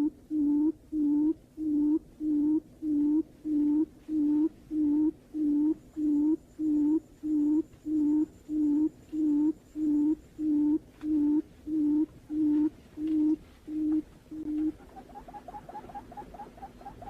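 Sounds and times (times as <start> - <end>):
bird hooting call: 0.0 - 17.0.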